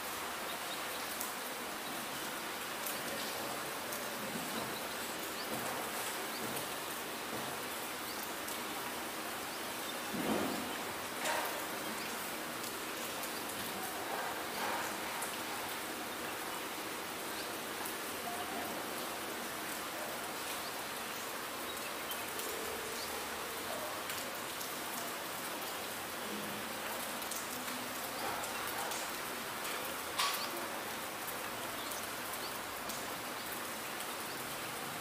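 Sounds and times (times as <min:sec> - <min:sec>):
steady rain hiss: 0:00.0 - 0:35.0.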